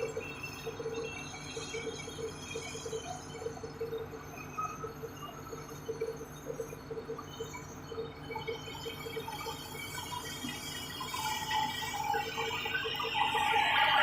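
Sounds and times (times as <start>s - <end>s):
high-pitched mechanical noise: 0.0s - 14.0s.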